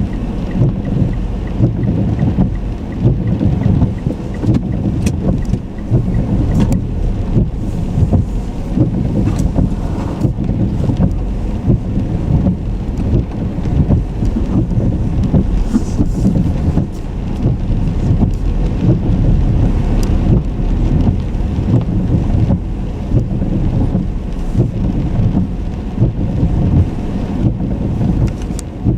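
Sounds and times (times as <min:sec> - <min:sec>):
car road and wind noise: 0:00.0 - 0:28.9.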